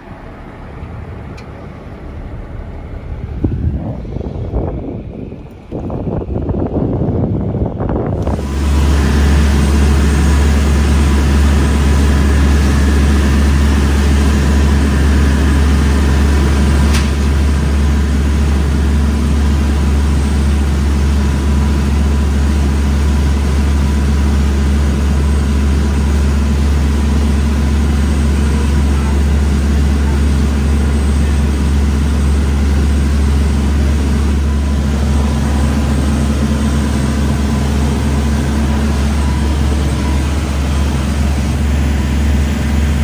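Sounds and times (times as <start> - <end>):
boat engine droning: 0.0 - 43.0
water rushing along hull: 8.1 - 43.0.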